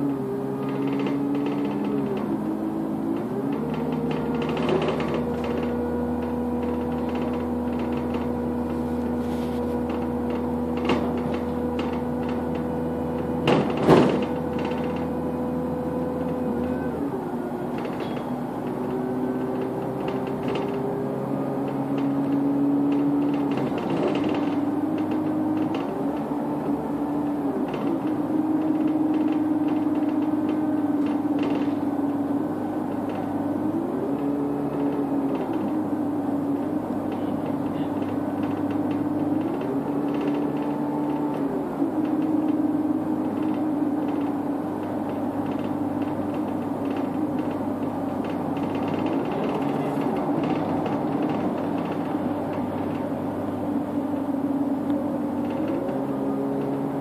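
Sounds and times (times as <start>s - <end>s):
bus engine whining hum: 0.0s - 57.0s.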